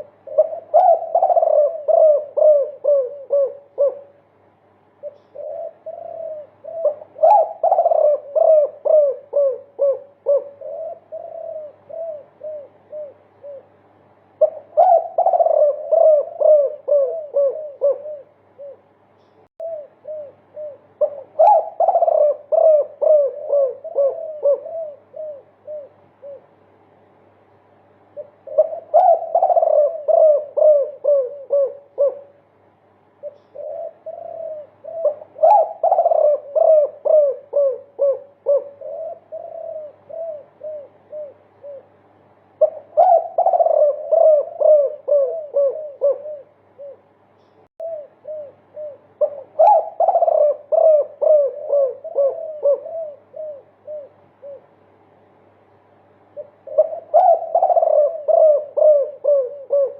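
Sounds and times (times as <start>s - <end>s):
dove cooing: 0.0s - 26.7s, 27.9s - 47.2s, 47.8s - 55.2s, 56.1s - 59.9s.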